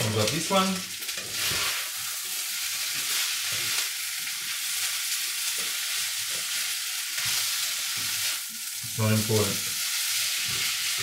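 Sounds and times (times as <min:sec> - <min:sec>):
rice sizzling in oil: 0:00.0 - 0:11.0.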